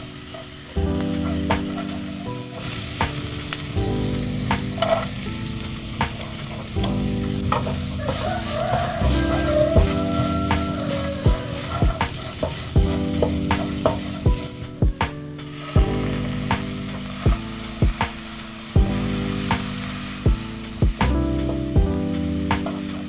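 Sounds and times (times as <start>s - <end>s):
frying sizzle: 0.0s - 23.0s.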